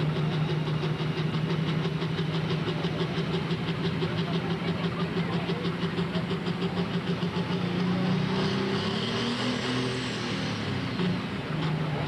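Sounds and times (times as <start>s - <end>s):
diesel engine running hard: 0.0s - 12.0s.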